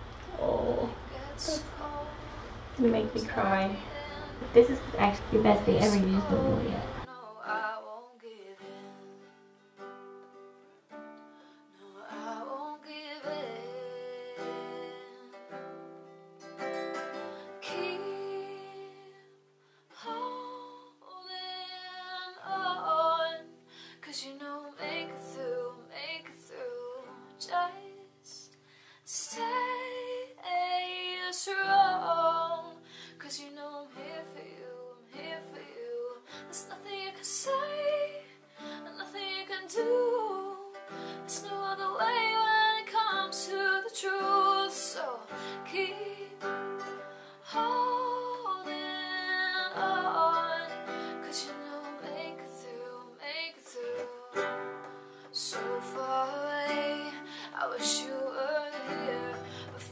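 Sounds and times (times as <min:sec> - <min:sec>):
acoustic guitar: 0:00.0 - 0:59.9
woman singing: 0:00.3 - 0:09.5, 0:11.6 - 0:15.9, 0:16.7 - 0:59.9.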